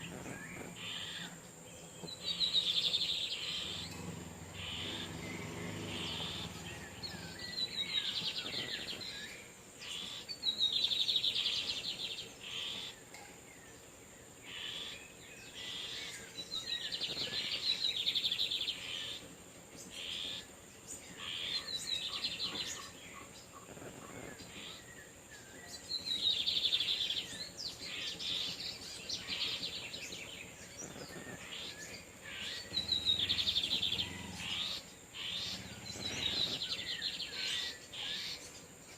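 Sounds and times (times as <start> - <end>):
birds singing twittering songs: 0.0 - 38.9.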